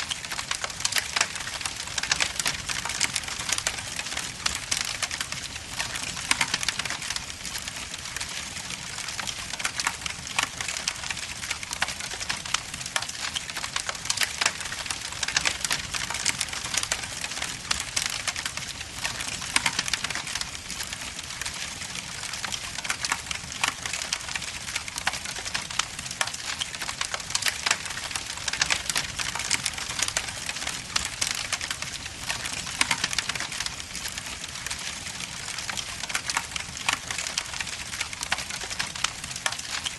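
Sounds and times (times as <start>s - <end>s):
wood logs crackling in fireplace: 0.0s - 39.9s.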